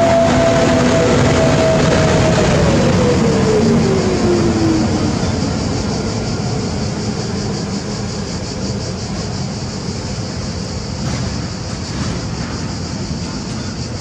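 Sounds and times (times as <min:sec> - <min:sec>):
freight train wagons rolling: 0:00.0 - 0:14.0.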